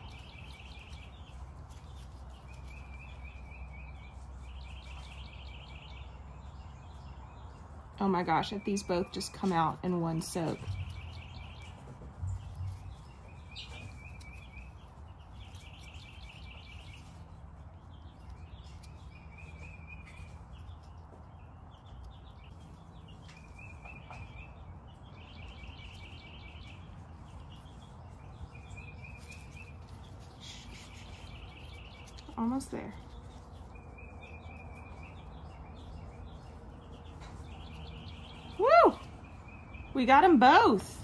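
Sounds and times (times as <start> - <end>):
low background rumble: 0.0 - 41.0.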